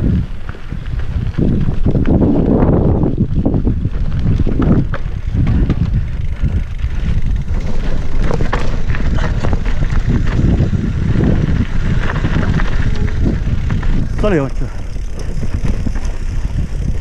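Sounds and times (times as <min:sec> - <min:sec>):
bike rattles and clicks: 0:00.0 - 0:17.0
tyres rumbling over dirt: 0:00.0 - 0:17.0
wind buffeting microphone: 0:00.0 - 0:17.0.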